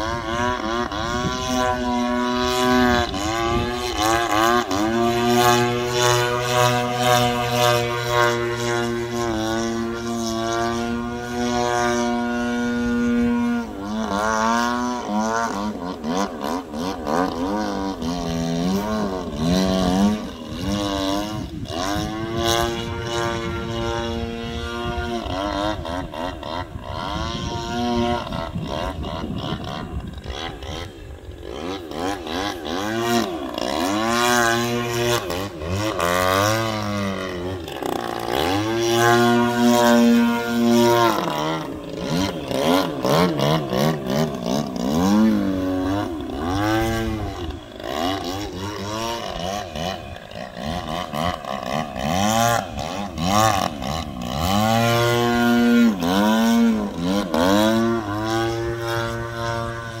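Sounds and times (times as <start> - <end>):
model plane engine droning: 0.0 - 60.0.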